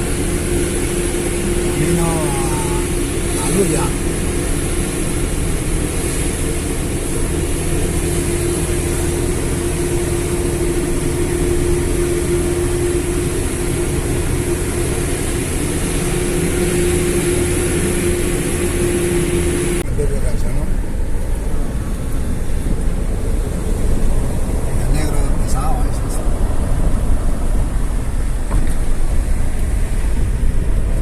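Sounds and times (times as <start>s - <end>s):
constant droning tone: 0.0s - 31.0s
vehicle engine and road noise: 0.0s - 31.0s.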